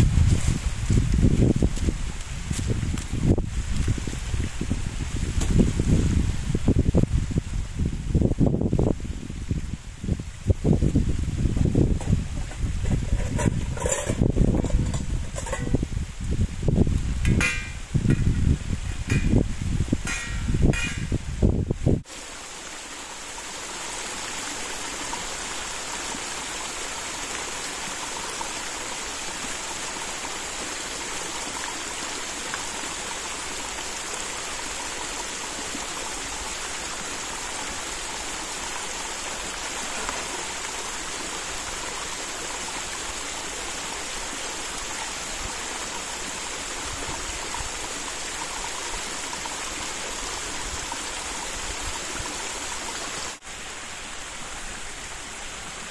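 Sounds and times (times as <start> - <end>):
brook flowing: 10.0 - 21.2, 22.0 - 55.9.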